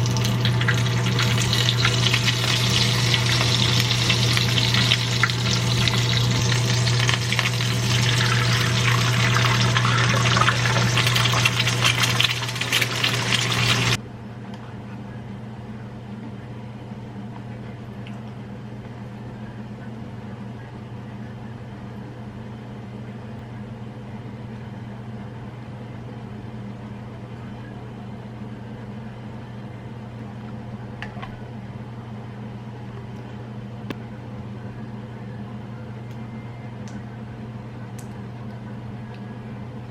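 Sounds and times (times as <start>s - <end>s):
mechanical hum: 0.0s - 39.9s
quiet appliance hum: 0.0s - 39.9s.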